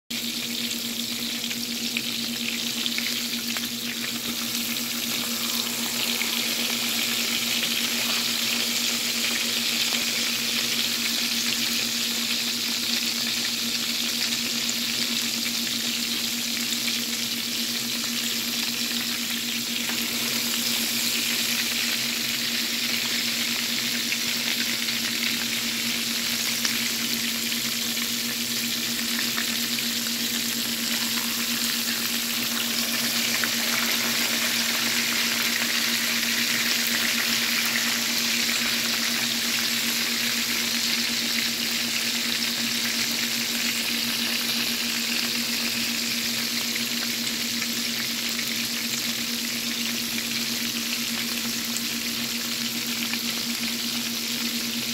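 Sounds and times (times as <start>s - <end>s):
meat sizzling in hot oil: 0.1s - 54.9s.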